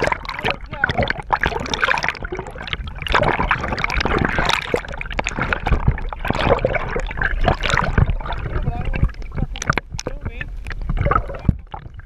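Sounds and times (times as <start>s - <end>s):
water splashing against kayak hull: 0.0s - 12.0s.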